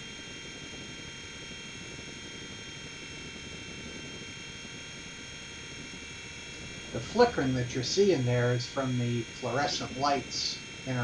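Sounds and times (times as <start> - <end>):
electric motors whining: 0.0 - 11.0
helicopter rotors rushing: 0.0 - 11.0.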